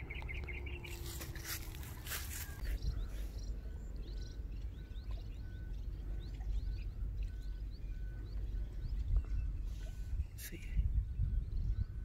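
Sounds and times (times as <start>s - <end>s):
low rumble: 0.0s - 12.0s
small birds chirping: 0.0s - 12.0s.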